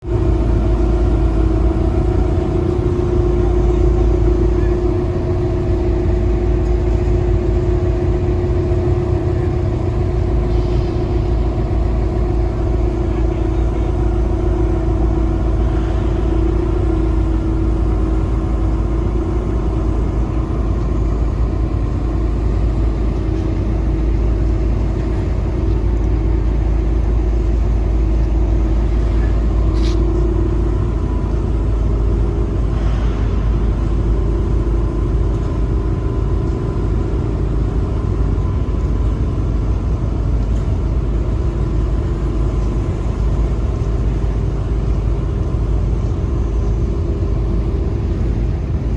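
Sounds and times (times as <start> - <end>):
ship engine rumbling: 0.0 - 48.9.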